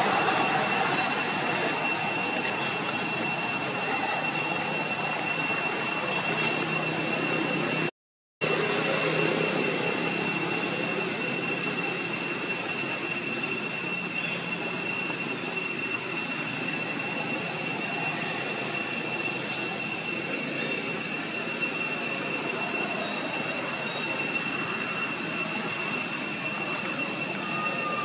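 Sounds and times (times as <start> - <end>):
insects droning: 0.0 - 7.9, 8.5 - 28.0.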